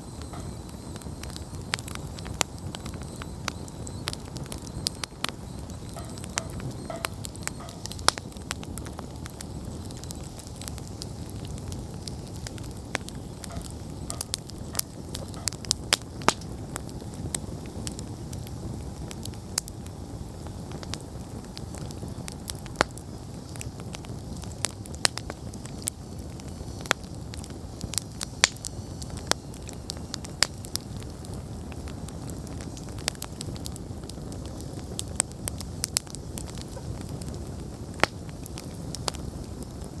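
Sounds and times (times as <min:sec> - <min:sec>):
burning wood crackling: 0:00.0 - 0:40.0
campfire flames rushing: 0:00.0 - 0:40.0.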